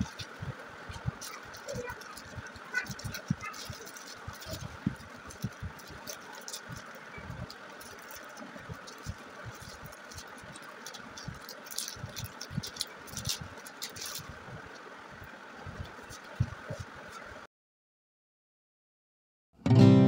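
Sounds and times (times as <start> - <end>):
plastic packets crinkling: 0.0 - 14.8, 15.8 - 17.2.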